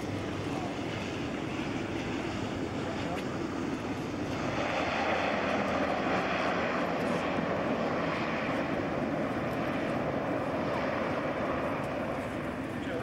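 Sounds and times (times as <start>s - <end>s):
propeller airplane engines droning: 0.0s - 13.0s.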